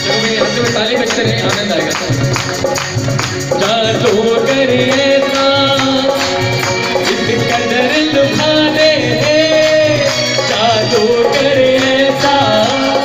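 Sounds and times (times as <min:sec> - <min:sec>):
man singing into a microphone: 0:00.0 - 0:13.0
rhythmic percussion: 0:00.0 - 0:13.0.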